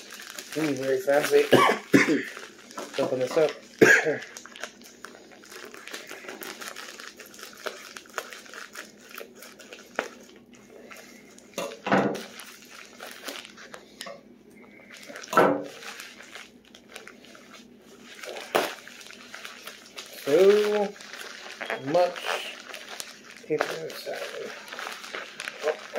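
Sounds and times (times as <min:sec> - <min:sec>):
envelope crinkling and rustling: 0:00.0 - 0:25.9.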